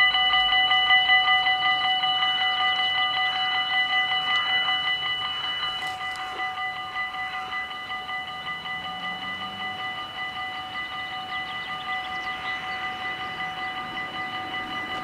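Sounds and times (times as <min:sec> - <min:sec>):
level crossing bells ringing: 0:00.0 - 0:15.0.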